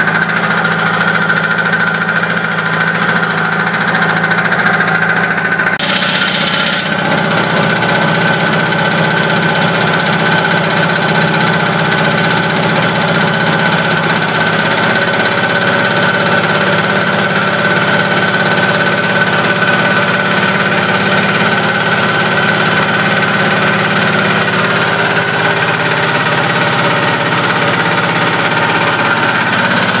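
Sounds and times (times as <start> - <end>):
diesel engine chugging: 0.0 - 30.0.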